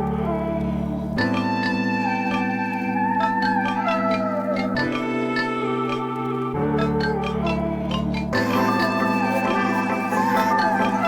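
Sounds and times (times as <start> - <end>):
higher melody line: 1.5 - 11.0.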